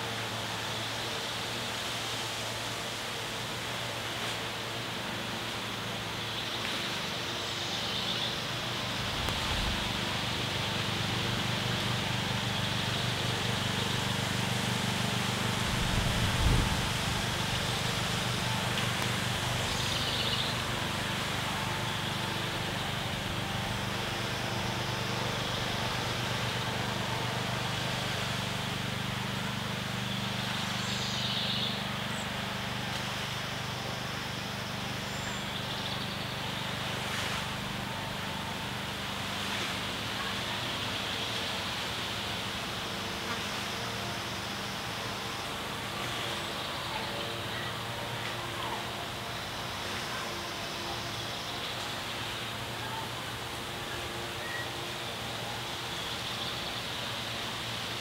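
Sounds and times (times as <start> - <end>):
constant hiss: 0.0 - 58.0
distant motor engine drone: 0.0 - 58.0.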